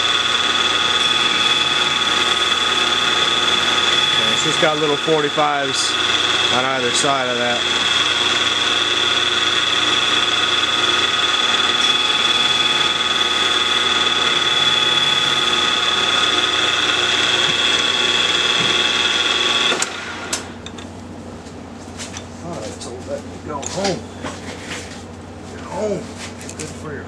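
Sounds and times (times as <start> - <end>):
mill spindle high whine: 0.0 - 25.8.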